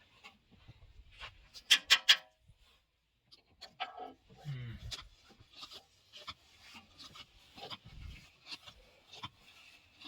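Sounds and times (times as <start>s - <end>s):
faint scraping and clicking: 0.0s - 10.0s.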